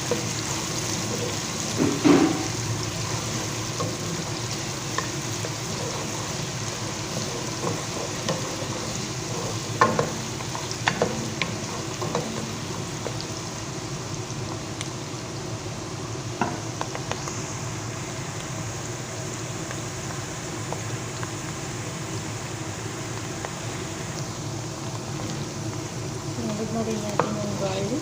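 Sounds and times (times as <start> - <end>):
onion sizzling in hot oil: 0.0 - 28.0.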